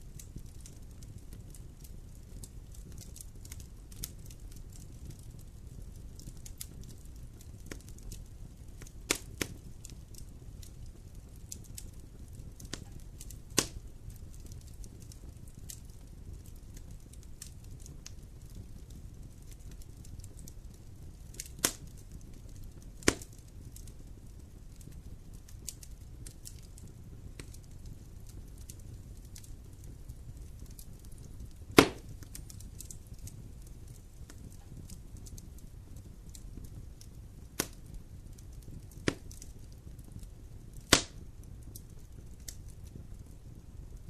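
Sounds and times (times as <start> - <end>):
campfire crackling: 0.0 - 44.0
loud fire pops: 0.0 - 44.0.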